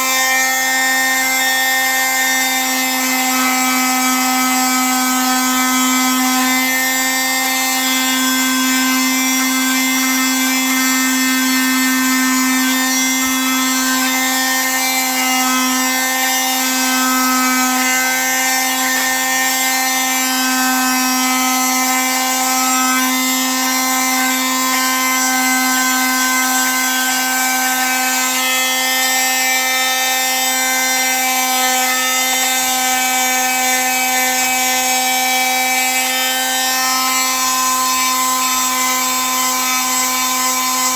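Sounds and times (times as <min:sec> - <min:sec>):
electric power tool running: 0:00.0 - 0:40.9.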